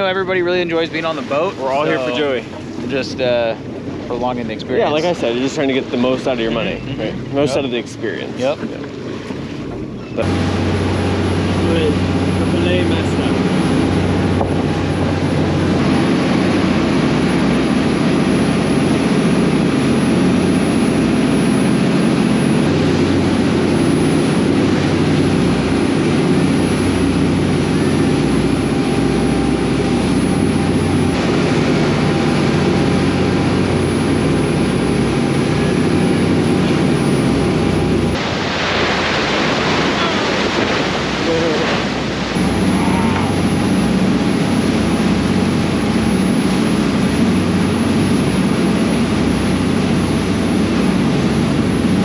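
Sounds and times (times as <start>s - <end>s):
boat engine drone: 0.0s - 52.0s
rushing water: 0.0s - 52.0s
wind: 0.0s - 52.0s.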